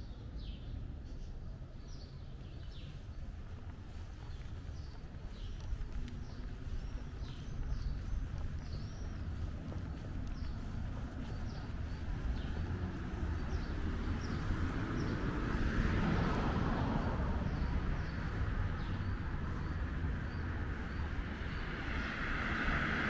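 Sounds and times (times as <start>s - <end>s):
low traffic rumble: 0.0s - 23.0s
small birds chirping: 0.0s - 23.0s
vehicle passing: 2.6s - 23.0s.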